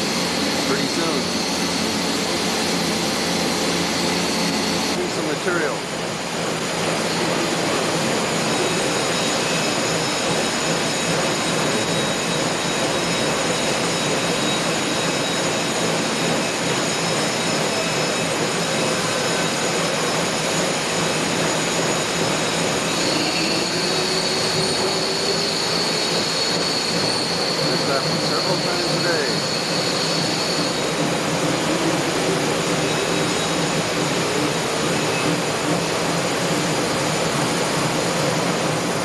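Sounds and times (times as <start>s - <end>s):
factory machinery rush: 0.0s - 39.0s
high machine whines: 0.0s - 39.0s.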